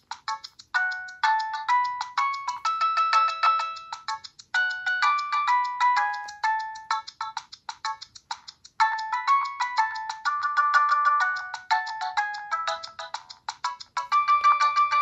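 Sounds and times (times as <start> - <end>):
phone ringtone melody: 0.3 - 7.3, 8.8 - 15.0.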